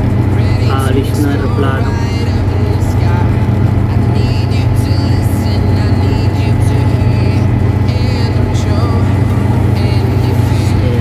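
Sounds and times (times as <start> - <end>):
loud low engine rumble: 0.0 - 11.0.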